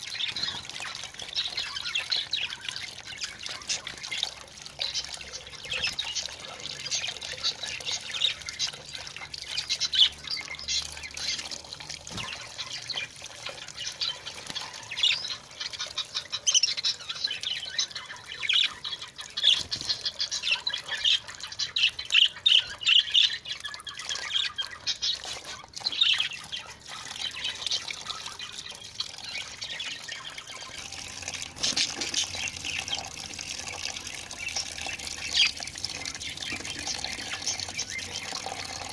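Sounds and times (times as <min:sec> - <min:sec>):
budgerigars chirping and squawking: 0:00.0 - 0:33.1, 0:34.4 - 0:38.9
running tap water: 0:00.0 - 0:38.9.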